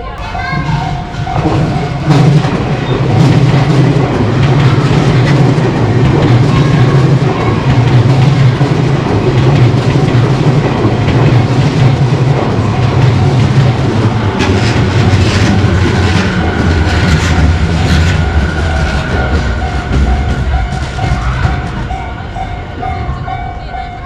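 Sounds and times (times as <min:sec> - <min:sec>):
continuous train rumble: 0:00.0 - 0:24.0
train wheels clattering over rail joints: 0:00.2 - 0:24.0.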